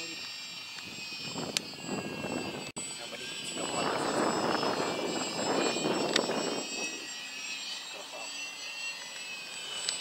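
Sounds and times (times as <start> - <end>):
faint high whine: 0.0 - 10.0
model plane propeller pass: 0.0 - 10.0.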